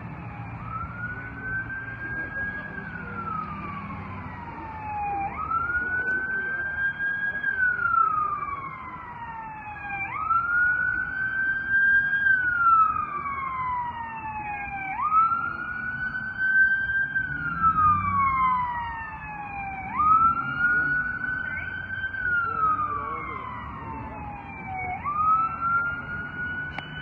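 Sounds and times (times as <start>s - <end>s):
fire engine siren wailing: 0.0s - 27.0s.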